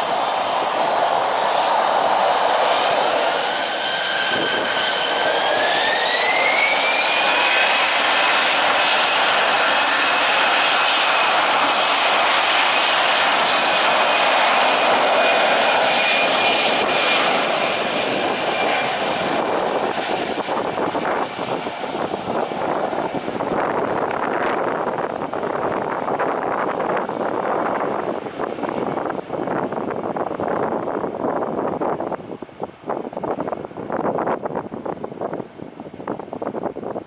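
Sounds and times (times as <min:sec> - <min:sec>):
jet engines whining and roaring: 0:00.0 - 0:37.0.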